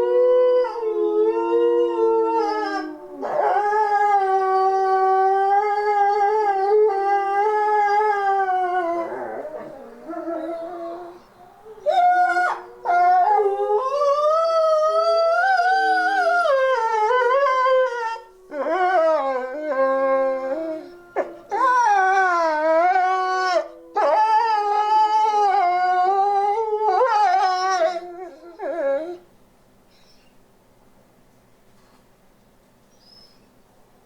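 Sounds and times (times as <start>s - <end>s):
wolves howling: 0.0s - 29.2s.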